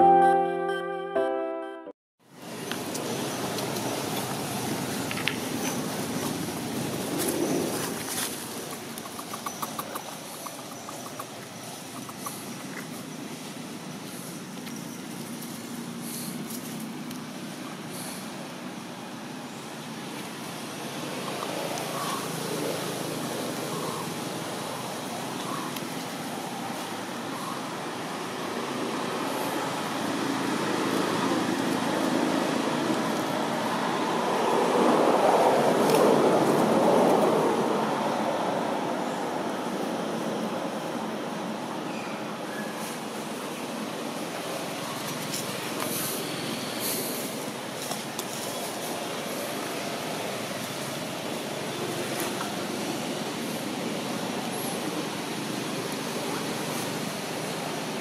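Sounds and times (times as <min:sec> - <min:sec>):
road traffic noise: 0:00.0 - 0:58.0
rushing outdoor background noise: 0:02.2 - 0:58.0.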